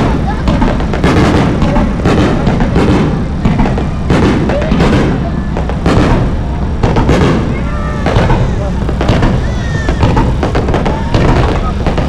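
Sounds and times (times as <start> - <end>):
deep rumble: 0.0 - 12.0
fireworks booming: 0.0 - 12.0.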